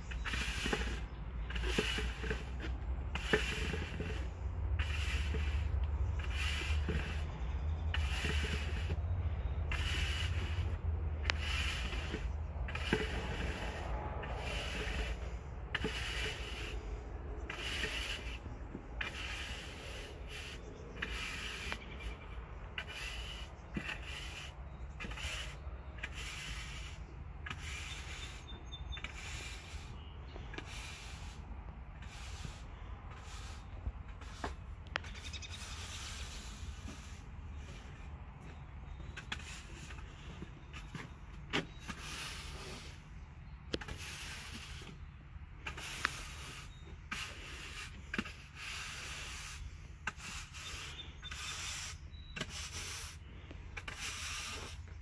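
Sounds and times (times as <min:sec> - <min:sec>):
push broom sweeping sand on concrete: 0:00.0 - 0:55.0.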